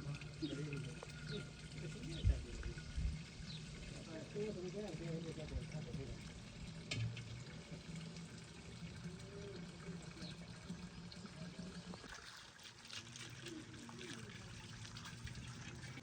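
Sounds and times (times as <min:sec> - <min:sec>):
water pouring and trickling: 0:00.0 - 0:16.0.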